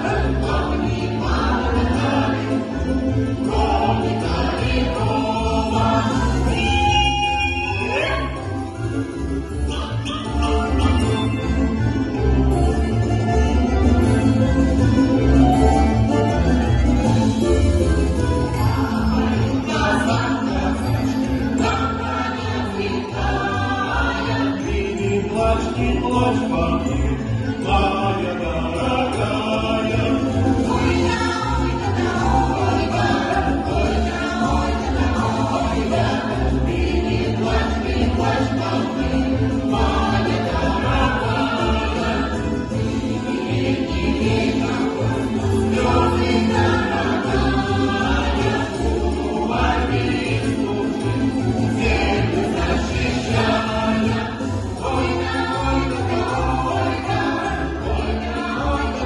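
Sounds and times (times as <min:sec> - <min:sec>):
choir singing in chorus: 0:00.0 - 0:09.9, 0:13.9 - 0:59.0
low instrumental accompaniment: 0:00.0 - 0:59.0.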